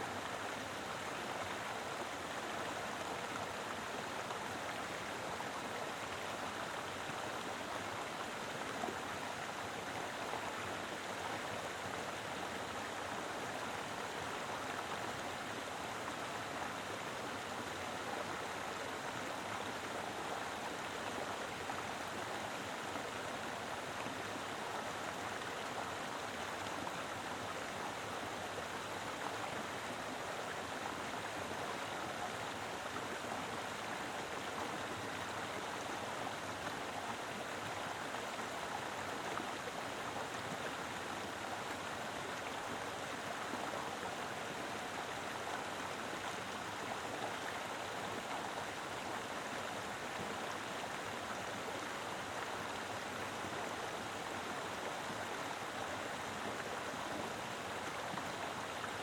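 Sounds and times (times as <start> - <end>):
mountain river flowing: 0.0 - 59.0.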